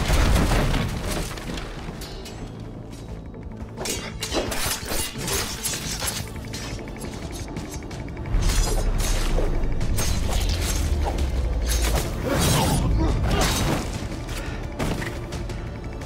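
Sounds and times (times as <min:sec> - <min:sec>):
dramatic score music: 0:00.0 - 0:16.0.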